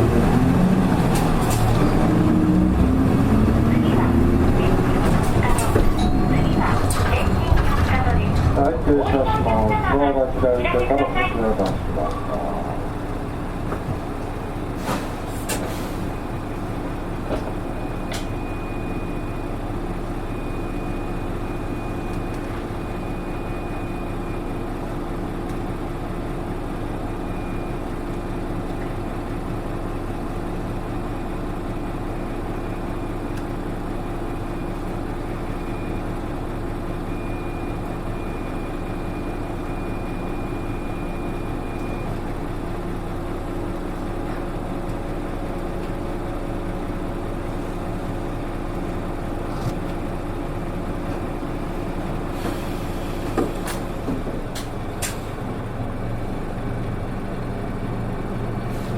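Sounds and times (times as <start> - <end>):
bus engine idling: 0.0 - 58.9.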